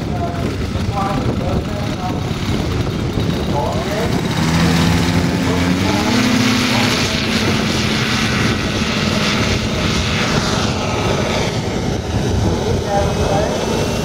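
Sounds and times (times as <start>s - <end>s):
model plane engine at full throttle: 0.0s - 14.0s
propeller noise: 0.0s - 14.0s.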